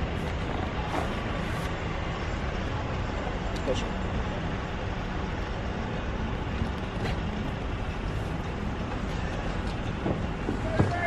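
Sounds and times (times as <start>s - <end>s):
outdoor low rumble and hiss: 0.0s - 11.0s.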